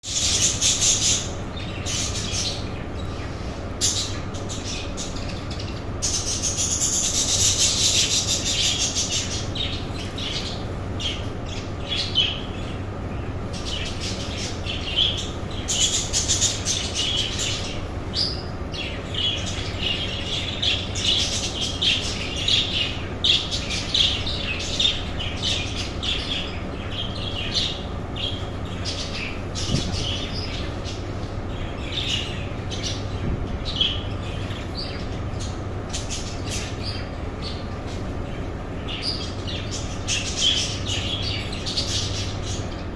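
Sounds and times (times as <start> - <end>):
budgerigars chattering: 0.0 - 42.9.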